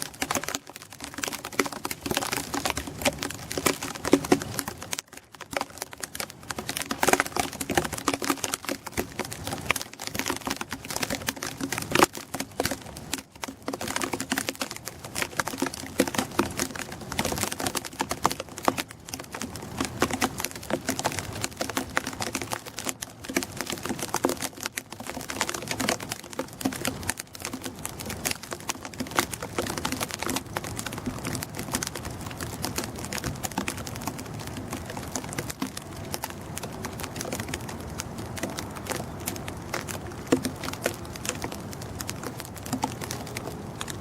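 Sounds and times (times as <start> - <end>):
snow ticking against hard surface: 0.0 - 44.0.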